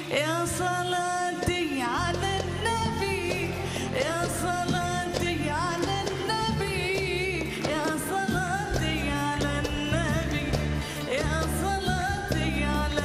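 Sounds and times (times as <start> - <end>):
woman singing: 0.0 - 13.0
band accompaniment: 1.4 - 13.0.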